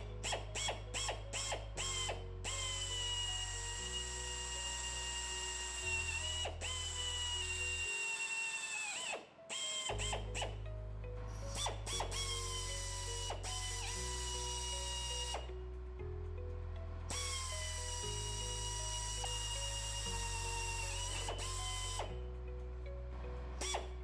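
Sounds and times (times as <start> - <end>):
electric drill boring steel: 0.0 - 10.6, 11.4 - 15.5, 17.1 - 22.2, 23.4 - 24.0
background music with low notes: 0.0 - 24.0.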